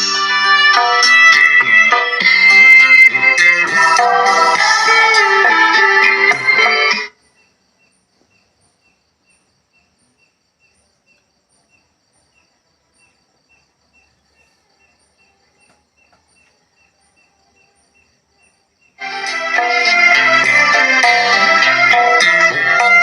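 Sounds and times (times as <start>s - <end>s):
faint cricket chirping: 1.0s - 20.6s.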